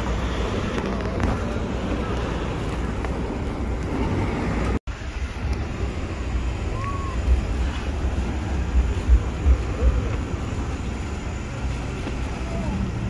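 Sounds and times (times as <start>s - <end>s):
traffic rumble: 0.0s - 13.0s
wind buffeting microphone: 0.0s - 13.0s.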